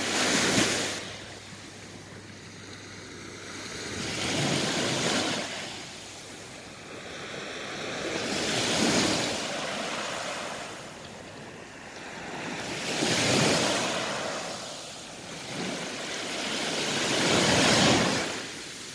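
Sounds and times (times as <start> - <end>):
small waves breaking on sand beach: 0.0 - 18.9.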